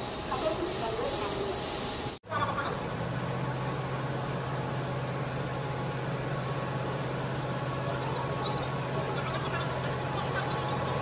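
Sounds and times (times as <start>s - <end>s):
electric locomotive humming: 0.0s - 11.0s.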